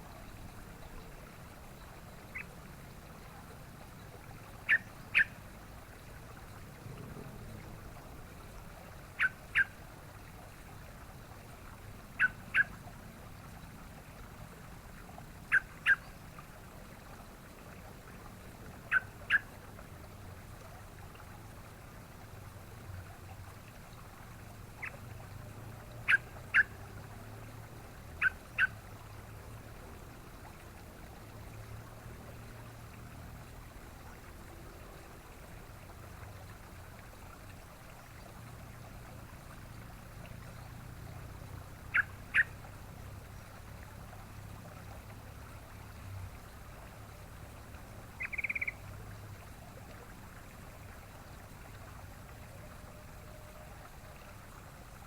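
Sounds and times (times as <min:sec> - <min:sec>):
faint steady background hiss: 0:00.0 - 0:55.0.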